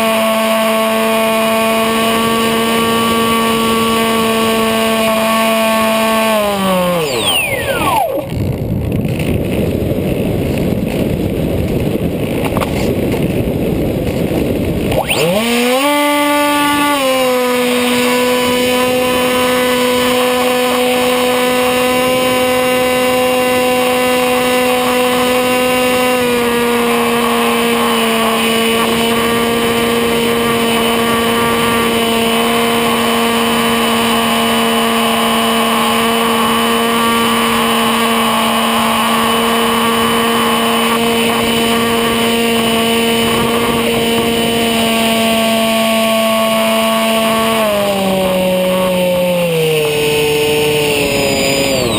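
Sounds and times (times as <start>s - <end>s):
electric motor and propeller whine: 0.0s - 51.9s.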